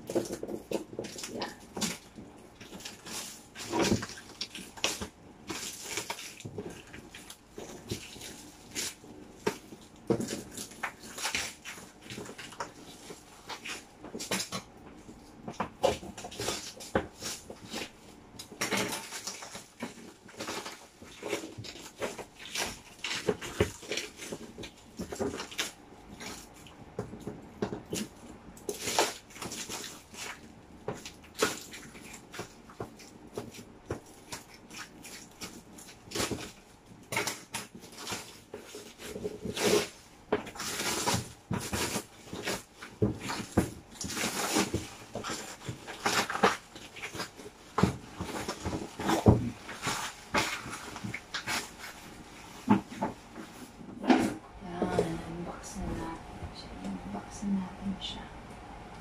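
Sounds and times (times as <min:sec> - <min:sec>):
cardboard and plastic crinkling: 0:00.0 - 0:57.2.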